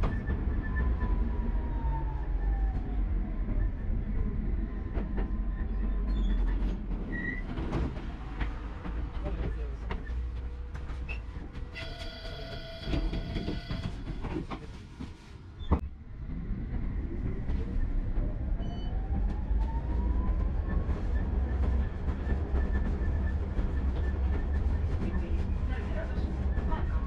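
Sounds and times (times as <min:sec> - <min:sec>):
tram rumbling on rails: 0:00.0 - 0:27.0.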